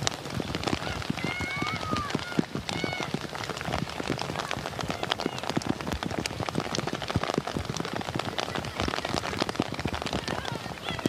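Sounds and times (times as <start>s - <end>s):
heavy rain on a hard surface: 0.0s - 11.0s.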